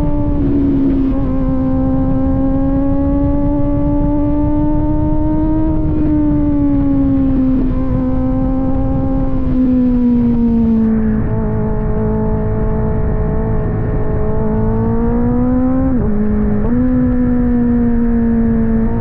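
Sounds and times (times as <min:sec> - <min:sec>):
motorcycle engine cruising: 0:00.0 - 0:19.0
wind rush: 0:00.0 - 0:19.0.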